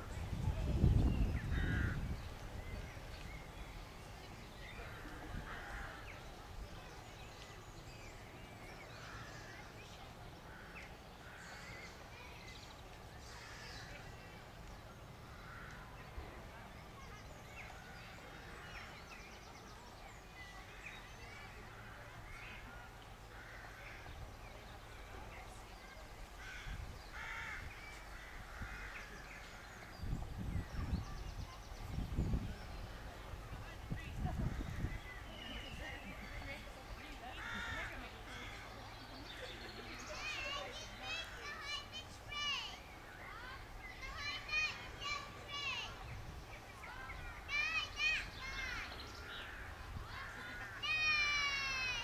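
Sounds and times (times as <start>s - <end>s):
birds chirping: 0.0s - 52.0s.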